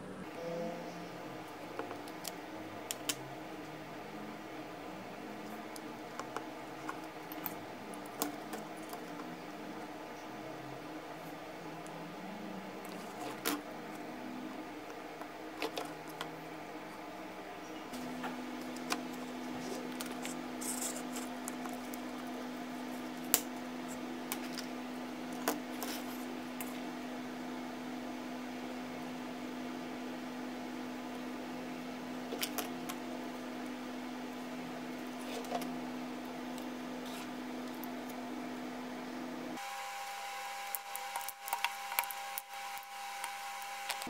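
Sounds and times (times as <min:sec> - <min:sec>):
background hum: 0:00.0 - 0:44.0
steady humming tone: 0:00.0 - 0:44.0.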